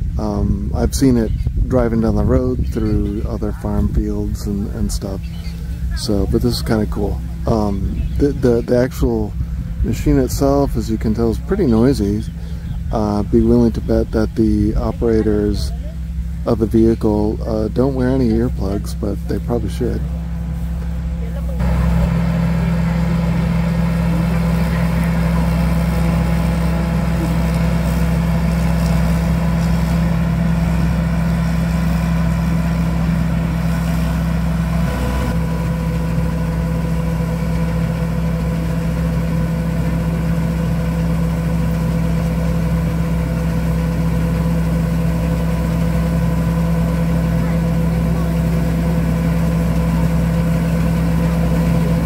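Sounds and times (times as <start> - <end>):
combine harvester engine drone: 0.0 - 52.0.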